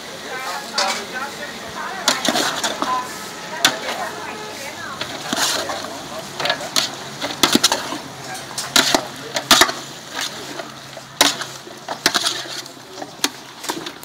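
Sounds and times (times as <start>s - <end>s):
metal spoon scraping a pot: 2.0s - 14.0s.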